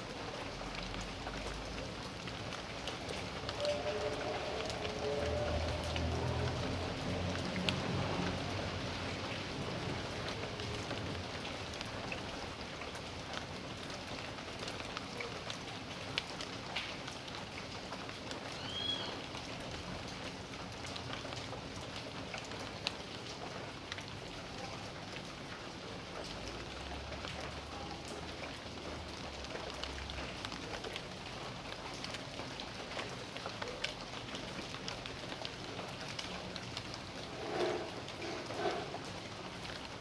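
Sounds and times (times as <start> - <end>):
raindrops ticking: 0.0 - 40.0
steady rain hiss: 0.0 - 40.0.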